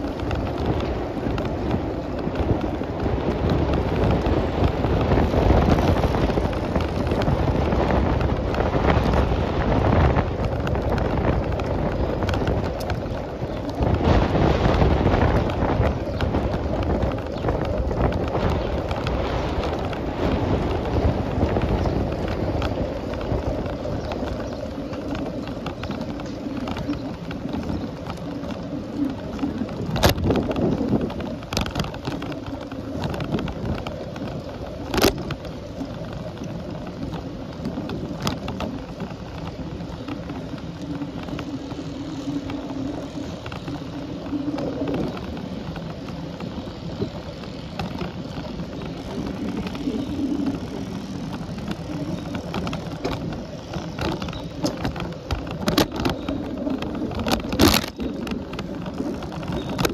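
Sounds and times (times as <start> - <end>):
bicycle tyre road noise: 0.0 - 59.9
wind on microphone: 0.0 - 59.9.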